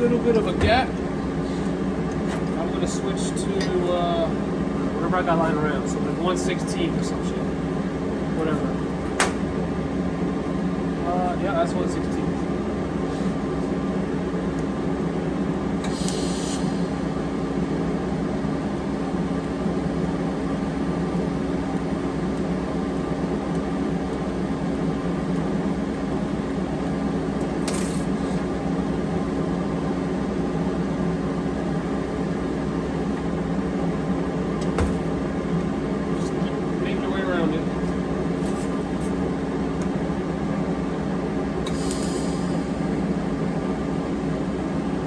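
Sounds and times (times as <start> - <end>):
welding hum: 0.0 - 45.0.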